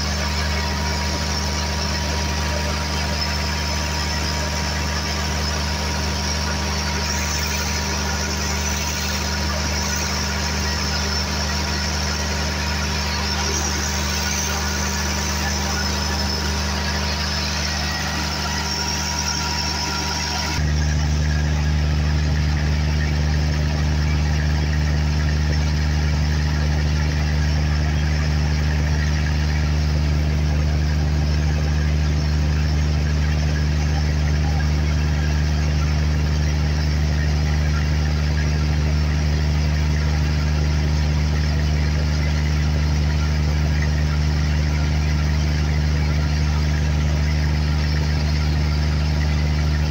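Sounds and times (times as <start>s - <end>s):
diesel generator engine running: 0.0s - 49.9s.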